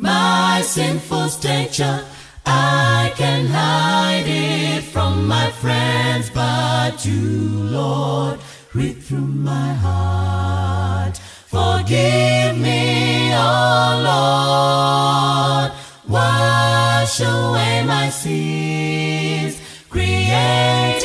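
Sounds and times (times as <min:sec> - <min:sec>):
two people singing a cappella: 0:00.0 - 0:21.0.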